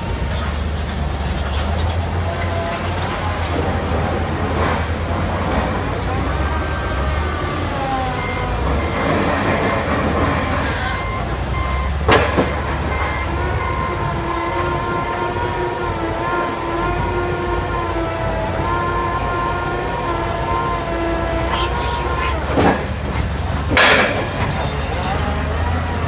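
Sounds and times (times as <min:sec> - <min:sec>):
diesel engine rumble: 0:00.0 - 0:26.0.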